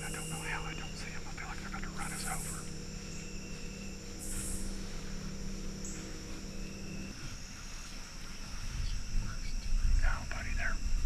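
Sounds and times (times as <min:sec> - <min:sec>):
insects chirring: 0:00.0 - 0:11.0
low steady hum: 0:00.0 - 0:11.0.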